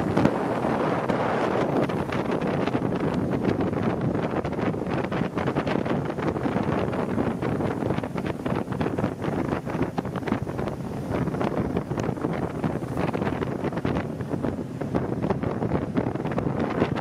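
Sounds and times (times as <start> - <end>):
boat engine: 0.0 - 17.0
water noise: 0.0 - 17.0
wind buffeting microphone: 0.0 - 17.0.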